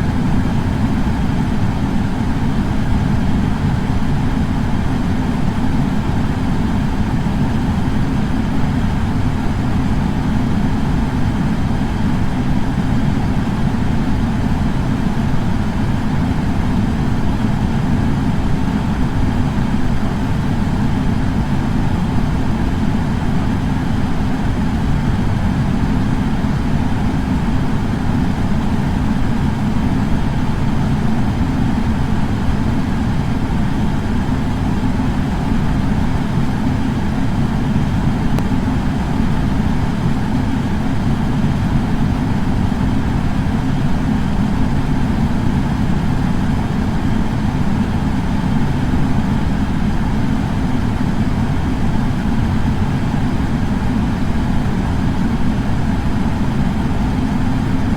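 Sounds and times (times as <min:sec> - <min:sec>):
air purifier fan running: 0:00.0 - 0:57.9.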